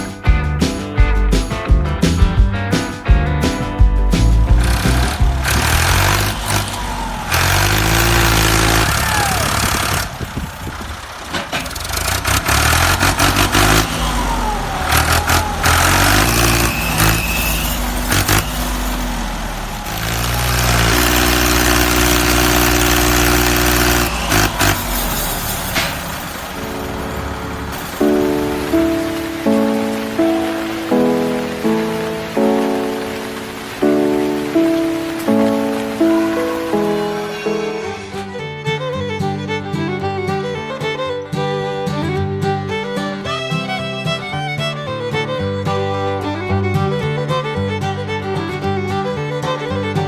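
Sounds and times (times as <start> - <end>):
music: 0.0 - 9.4, 13.3 - 25.8, 26.6 - 50.0
engine running and changing pitch: 4.3 - 50.0.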